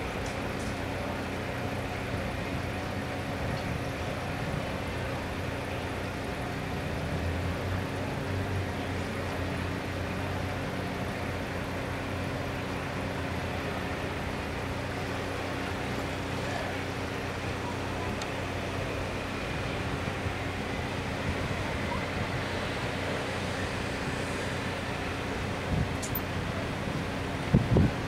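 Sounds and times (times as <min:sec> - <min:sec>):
vehicles idling: 0:00.0 - 0:28.0.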